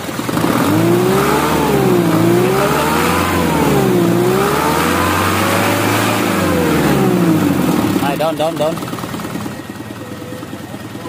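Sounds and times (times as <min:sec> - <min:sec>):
diesel engine revving: 0:00.0 - 0:09.5.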